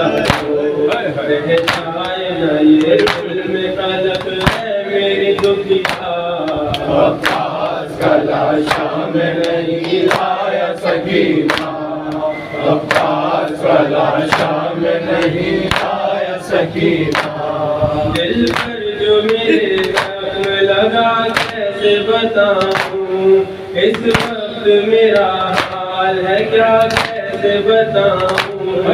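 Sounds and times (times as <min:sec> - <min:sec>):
group singing in chorus: 0:00.0 - 0:28.9
men chanting a lament: 0:00.0 - 0:28.9
palms slapping on chests: 0:00.1 - 0:03.4, 0:04.0 - 0:10.6, 0:11.4 - 0:16.2, 0:17.0 - 0:17.5, 0:18.1 - 0:21.7, 0:22.4 - 0:23.1, 0:23.8 - 0:27.4, 0:28.1 - 0:28.7.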